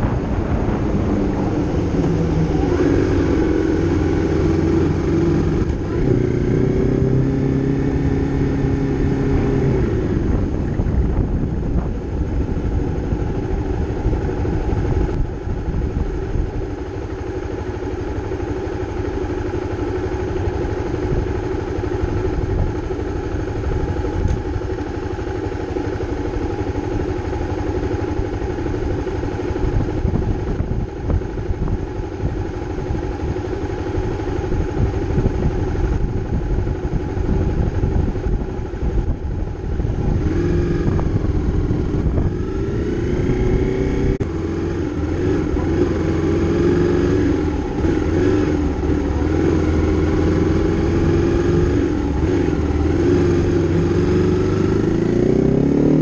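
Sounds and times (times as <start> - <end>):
motorcycle engine idling: 0.0 - 55.7
motorcycle accelerating through gears: 0.0 - 56.0.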